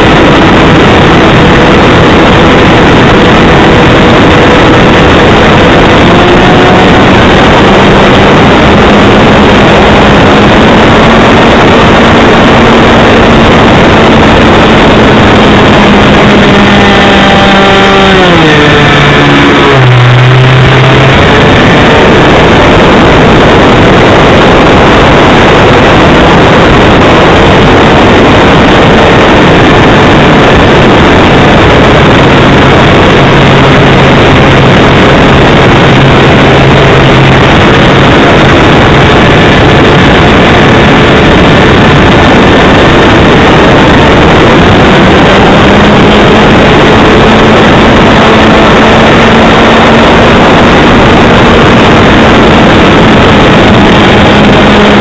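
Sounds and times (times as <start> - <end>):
model airplane engine running: 0.0 - 55.0
rush of air: 0.0 - 55.0.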